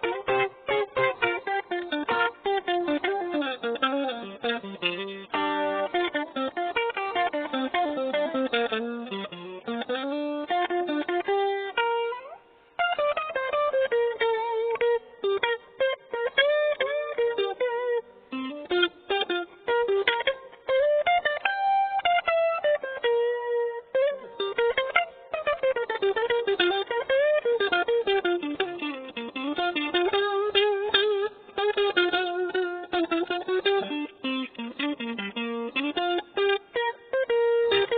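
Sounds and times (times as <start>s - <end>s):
electric guitar melody with string bends: 0.0s - 37.9s.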